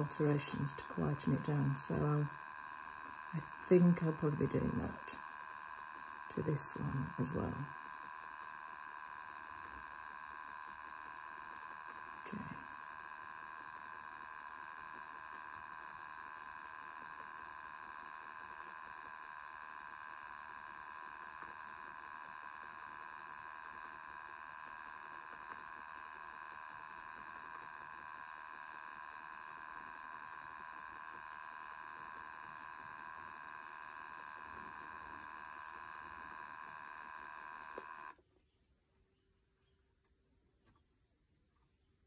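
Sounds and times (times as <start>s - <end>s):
spinning wheel motor whine: 0.0s - 38.2s.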